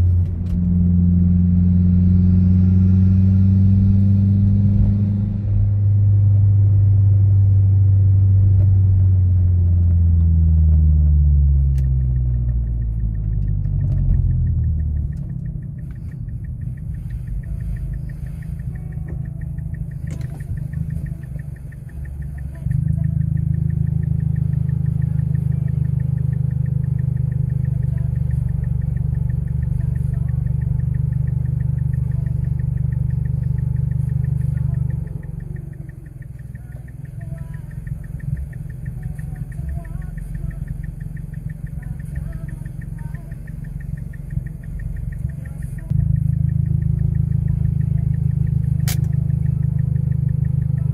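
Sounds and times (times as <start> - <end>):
car engine drone: 0.0 - 50.9
steady low hum: 0.0 - 50.9.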